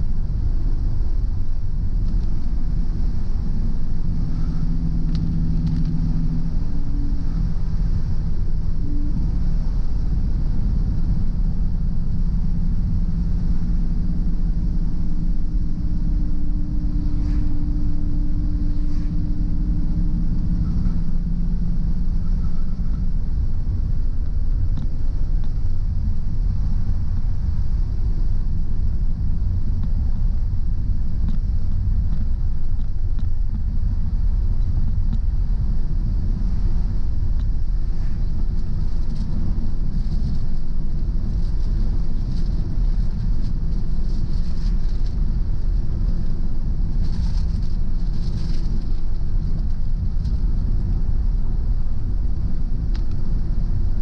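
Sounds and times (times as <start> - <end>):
low engine hum: 0.0 - 54.0
road and engine rumble: 0.0 - 54.0.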